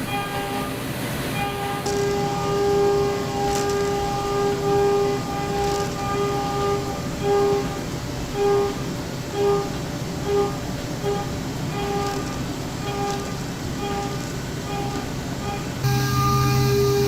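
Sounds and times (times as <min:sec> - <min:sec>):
constant machine hiss: 0:00.0 - 0:17.0
high-pitched cutting whine: 0:00.0 - 0:17.0.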